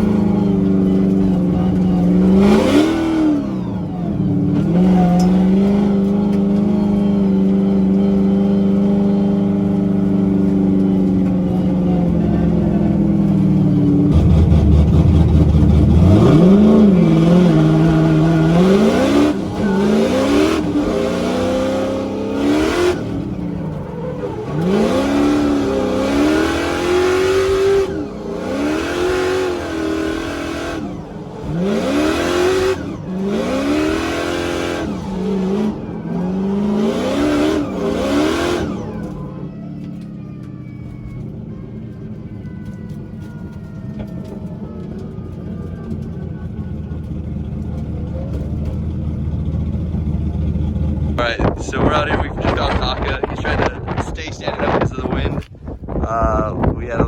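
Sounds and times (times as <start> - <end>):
drift car engine revving: 0.0 - 41.6, 44.0 - 57.0.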